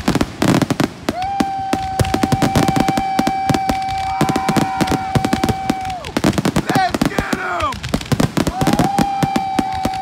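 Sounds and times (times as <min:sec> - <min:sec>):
fireworks crackling and banging: 0:00.0 - 0:10.0.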